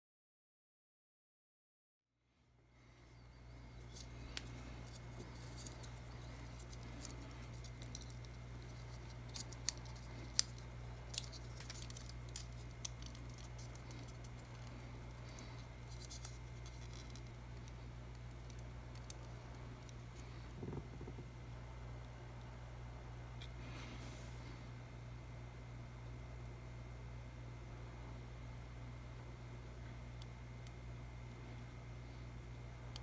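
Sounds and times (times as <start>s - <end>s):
steady low hum: 2.2s - 33.0s.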